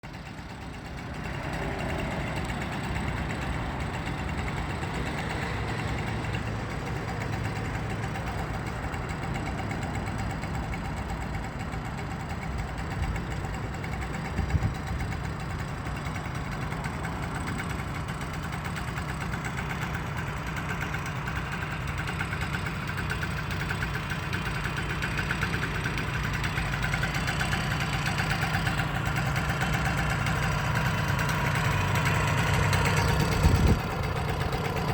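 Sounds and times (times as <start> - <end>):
small petrol engine idling: 0.0 - 34.9.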